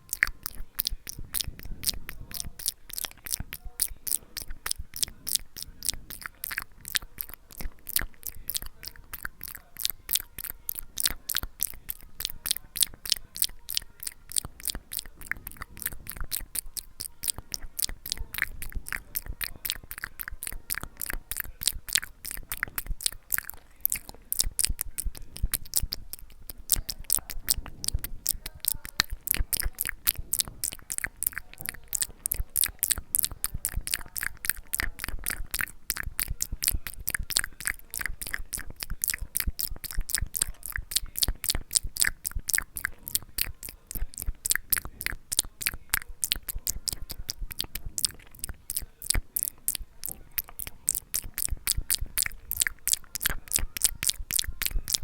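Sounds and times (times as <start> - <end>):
wet lip and tongue clicks: 0.0 - 55.0.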